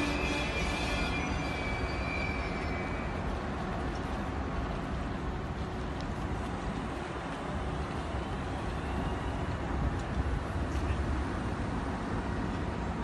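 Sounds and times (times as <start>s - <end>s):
faint train whine: 0.0s - 13.0s
train rumbling past: 0.0s - 13.0s.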